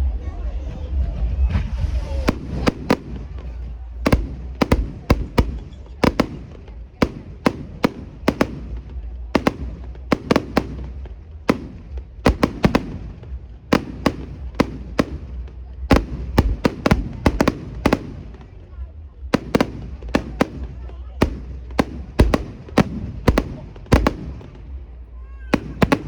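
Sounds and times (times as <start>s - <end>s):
low rumble: 0.0s - 26.0s
fireworks bangs: 1.0s - 26.0s.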